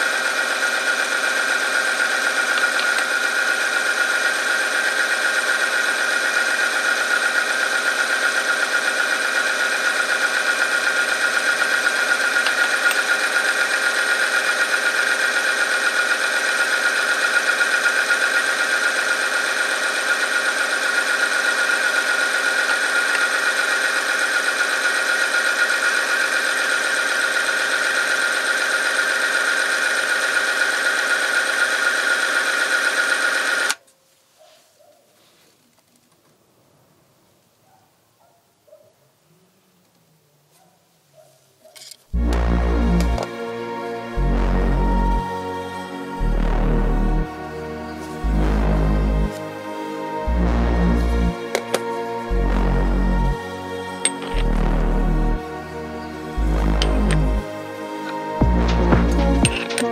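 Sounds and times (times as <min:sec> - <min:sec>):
electric motor high-pitched whine: 0:00.0 - 0:33.8, 0:41.8 - 0:59.9.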